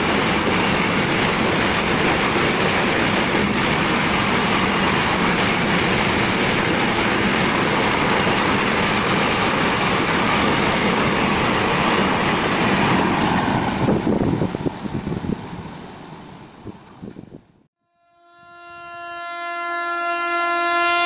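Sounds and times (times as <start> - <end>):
train wheels rushing on rail: 0.0 - 17.7.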